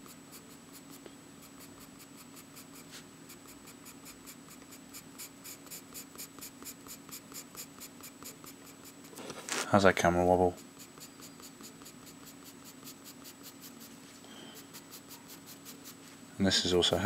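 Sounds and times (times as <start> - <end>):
drawing tip scratching on paper: 0.0 - 9.6, 10.5 - 16.0.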